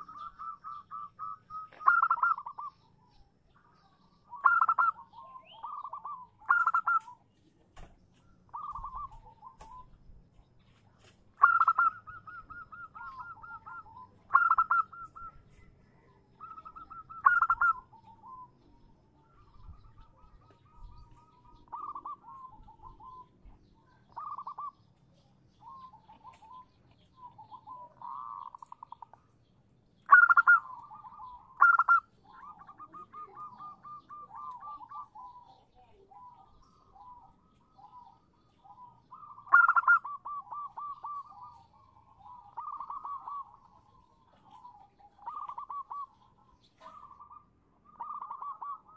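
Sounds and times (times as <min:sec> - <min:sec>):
dove cooing: 0:00.0 - 0:07.3, 0:08.3 - 0:10.1, 0:11.4 - 0:29.3, 0:30.0 - 0:48.9.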